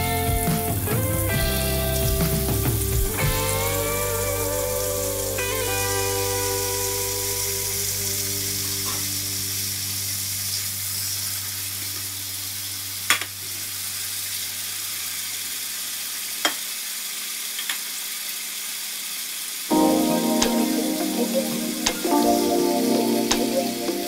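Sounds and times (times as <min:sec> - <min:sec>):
chicken sizzling in frying pan: 0:00.0 - 0:23.8.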